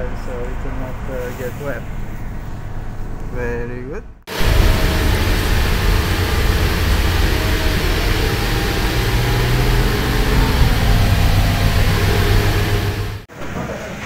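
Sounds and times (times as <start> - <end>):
bus engine rumble: 0.0 - 13.3.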